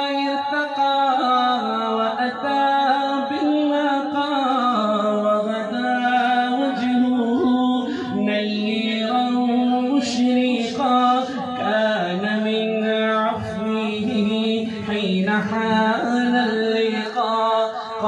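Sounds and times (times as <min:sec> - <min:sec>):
man singing melodic line: 0:00.0 - 0:18.0.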